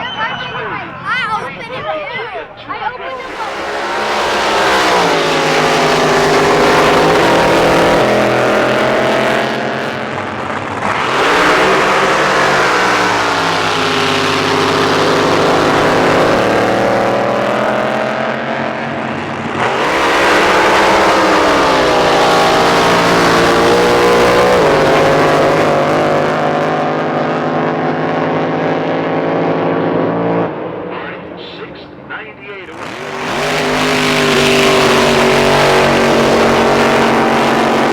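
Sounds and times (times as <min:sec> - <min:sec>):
drag boat engines revving: 0:00.0 - 0:37.9.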